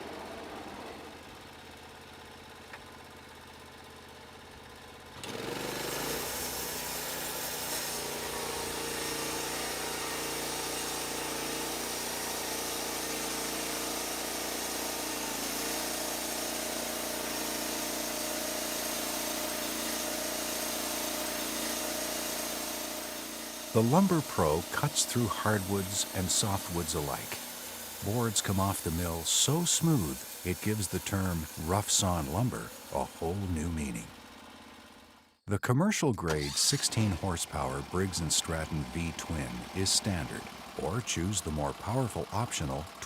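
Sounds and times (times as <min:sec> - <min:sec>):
sawmill engine running: 0:00.0 - 0:35.3, 0:36.2 - 0:43.0.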